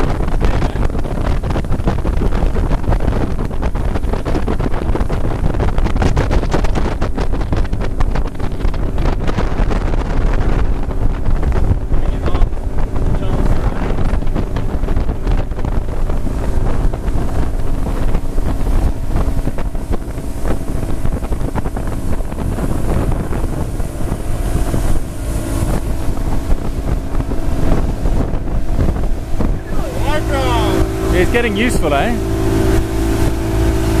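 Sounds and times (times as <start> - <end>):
outboard motor running: 0.0 - 34.0
wind noise on microphone: 0.0 - 34.0.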